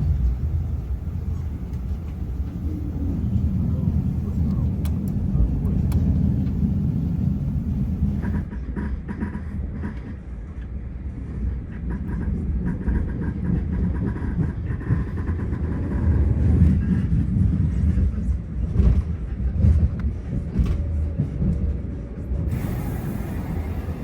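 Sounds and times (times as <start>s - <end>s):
train rumbling along track: 0.0s - 24.0s.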